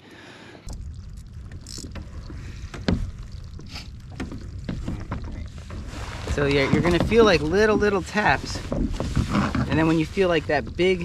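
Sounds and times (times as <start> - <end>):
wind rumbling on microphone: 0.6 - 11.0.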